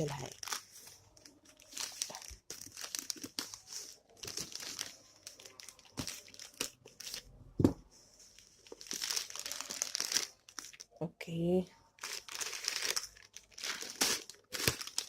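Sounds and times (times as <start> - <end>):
packaging crinkling and tearing: 0.0 - 7.3, 8.4 - 10.9, 12.0 - 15.0.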